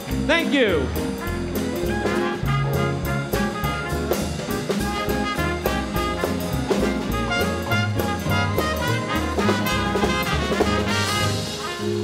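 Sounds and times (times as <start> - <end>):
swing big band playing: 0.0 - 12.0.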